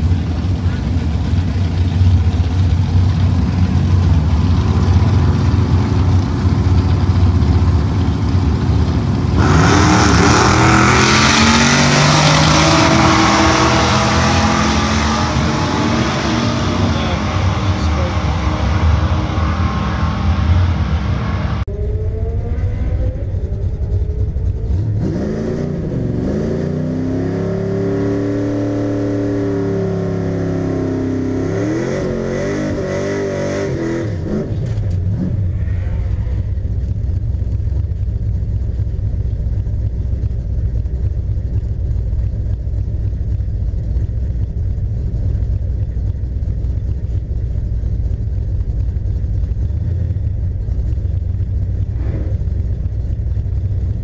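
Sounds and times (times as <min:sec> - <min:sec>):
car engine revving and idling: 0:00.0 - 0:54.0.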